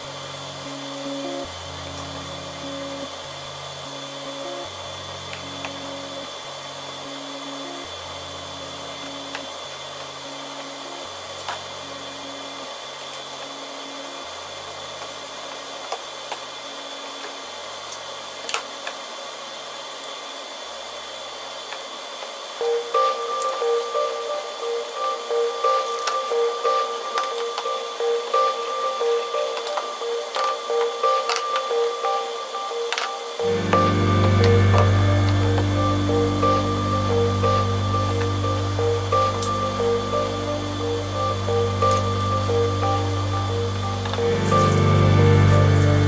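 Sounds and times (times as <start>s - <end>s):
faint high whine and hiss: 0.0s - 46.0s.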